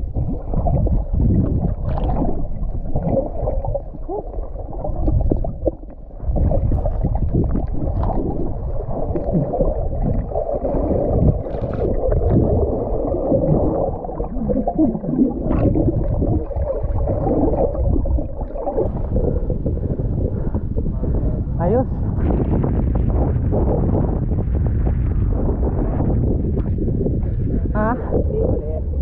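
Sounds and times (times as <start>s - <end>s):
water sloshing and gurgling: 0.0s - 29.0s.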